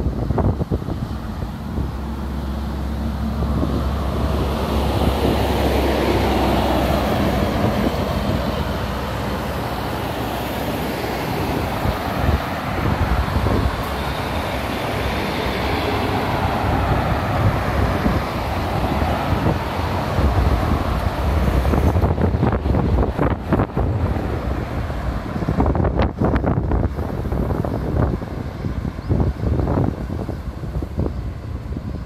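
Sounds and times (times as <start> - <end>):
traffic driving past: 0.0 - 32.0.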